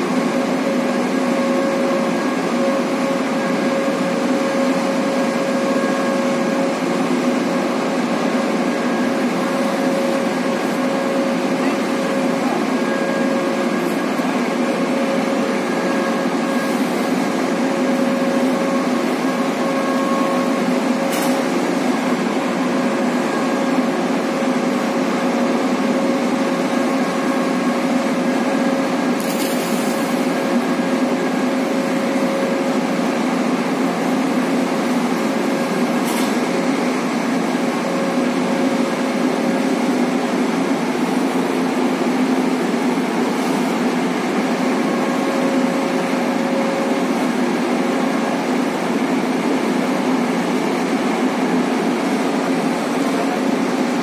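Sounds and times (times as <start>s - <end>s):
heavy machinery drone: 0.0s - 54.0s.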